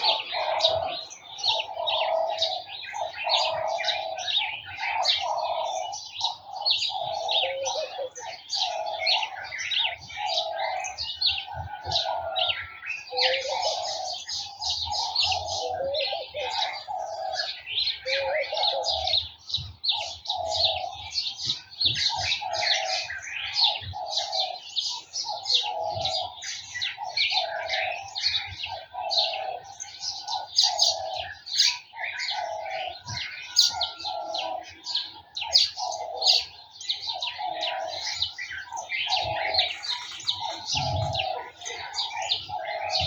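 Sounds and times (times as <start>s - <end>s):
birds chirping and singing: 0.0s - 43.0s.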